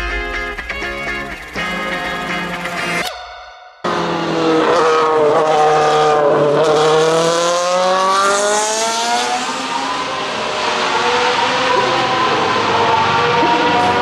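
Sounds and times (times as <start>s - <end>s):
race car engine accelerating: 0.0s - 3.0s, 3.9s - 14.0s.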